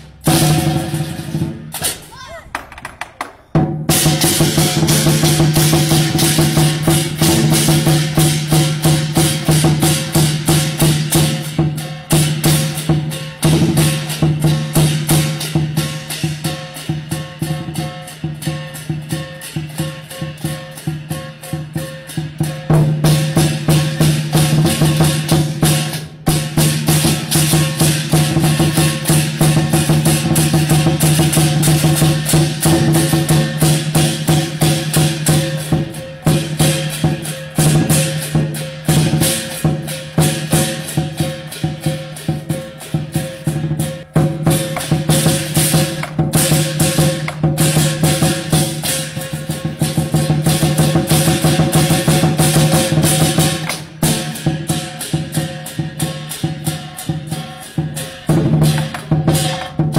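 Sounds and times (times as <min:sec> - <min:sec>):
instrumental music with percussion beat: 0:00.0 - 0:59.9.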